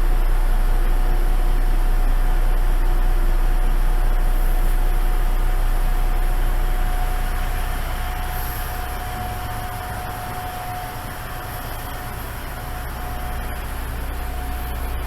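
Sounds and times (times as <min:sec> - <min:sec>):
diesel railcar engine rumbling: 0:00.0 - 0:15.0.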